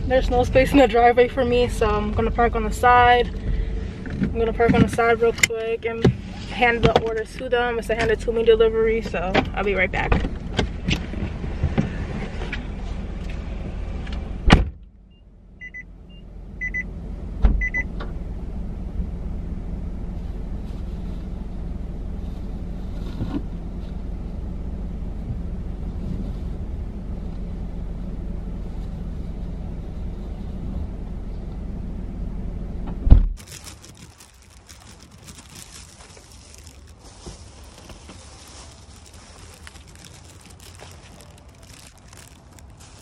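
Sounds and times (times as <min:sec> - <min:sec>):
low rumble and hiss: 0:00.0 - 0:43.0.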